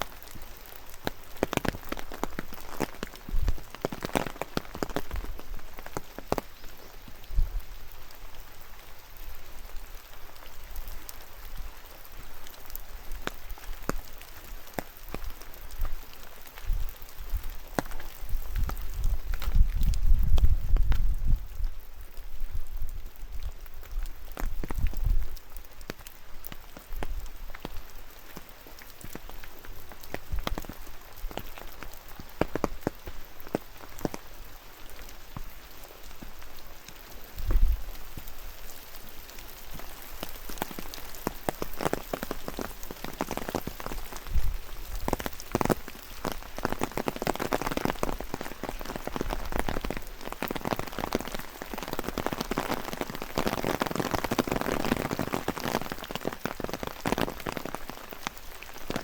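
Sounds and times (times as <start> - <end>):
raindrops striking close by: 0.0 - 59.0.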